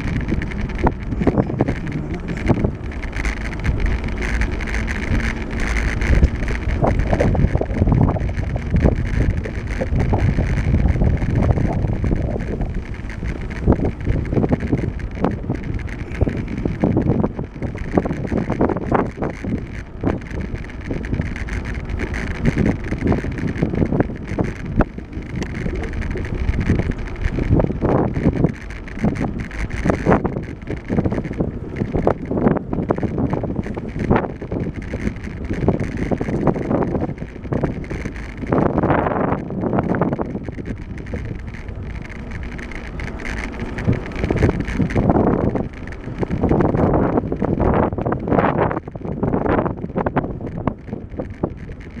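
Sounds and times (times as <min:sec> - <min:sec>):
bicycle knocks and rattles: 0:00.0 - 0:52.0
wind rumbling on microphone: 0:00.0 - 0:52.0.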